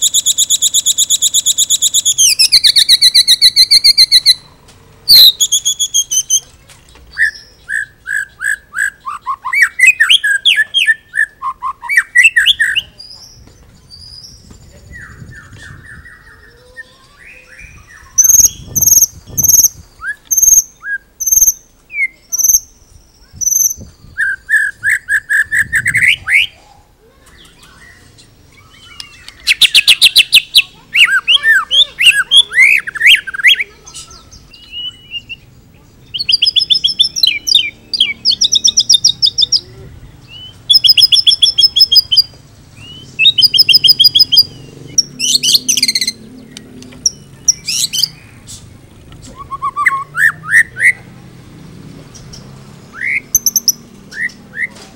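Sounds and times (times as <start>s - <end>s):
bird singing varied phrases: 0.0s - 6.5s, 7.1s - 54.8s.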